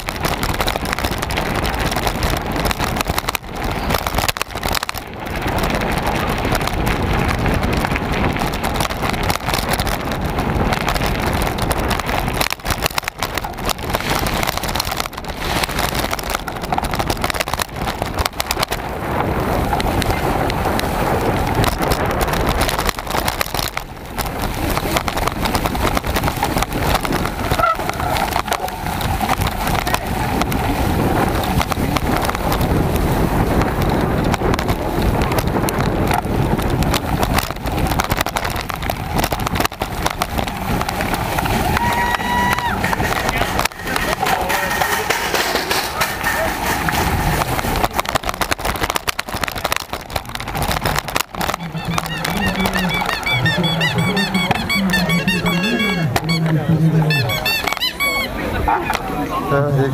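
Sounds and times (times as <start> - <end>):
bike rattling over bumps: 0.0 - 59.9
bike tyre noise: 0.0 - 59.9
wind rushing on microphone: 0.0 - 59.9.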